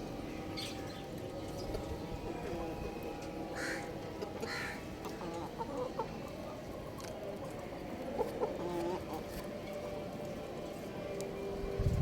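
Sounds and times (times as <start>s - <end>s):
chicken clucking: 1.1s - 10.8s.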